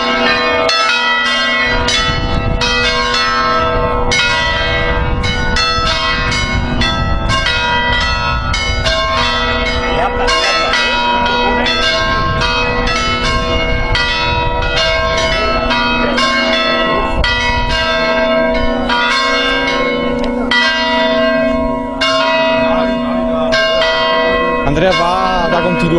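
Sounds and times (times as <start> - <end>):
church bells pealing: 0.0 - 25.9.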